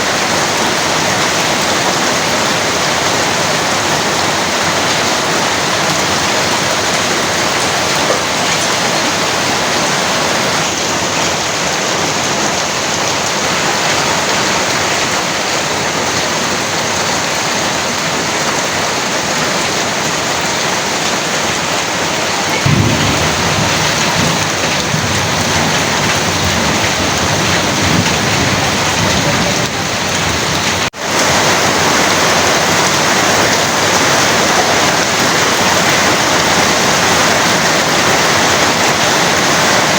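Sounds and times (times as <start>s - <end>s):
thunder rumbling: 0.0s - 15.1s, 21.0s - 39.9s
heavy rain pouring: 0.0s - 39.9s.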